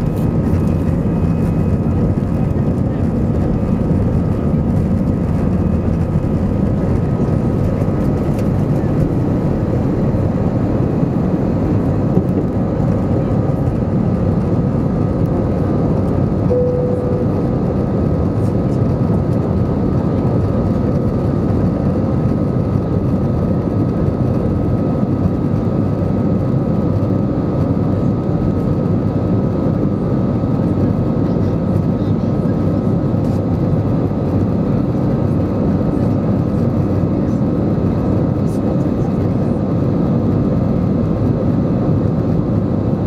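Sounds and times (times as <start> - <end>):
jet engines roaring in cabin: 0.0 - 43.0.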